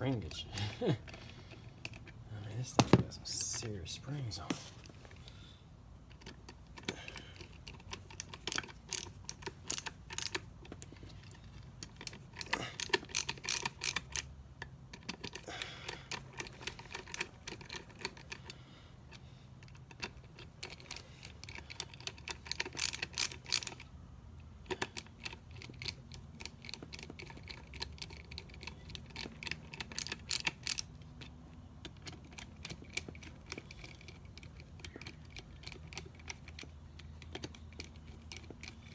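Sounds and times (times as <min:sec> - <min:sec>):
small metal parts clicking: 0:06.0 - 0:38.9.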